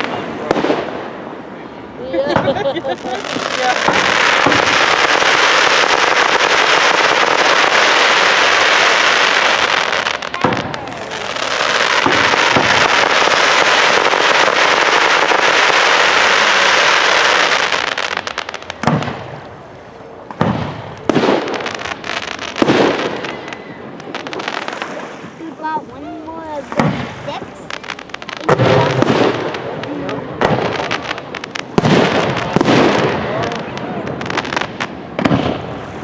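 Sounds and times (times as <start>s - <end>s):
firework bangs: 0.0s - 1.6s, 2.3s - 25.8s, 26.4s - 36.0s
firework crackle: 0.0s - 36.0s.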